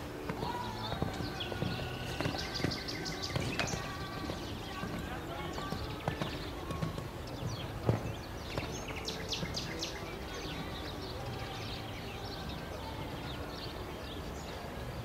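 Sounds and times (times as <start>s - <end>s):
background noise: 0.0s - 15.0s
small birds chirping: 0.0s - 15.0s.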